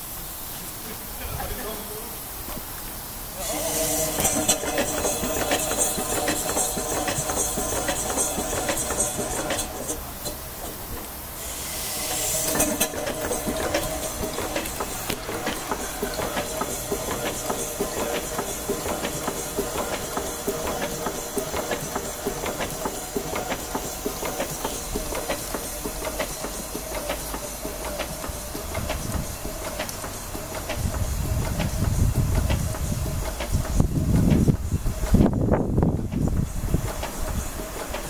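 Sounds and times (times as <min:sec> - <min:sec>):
air hiss: 0:00.0 - 0:38.0
steam engine clatter: 0:00.0 - 0:38.0.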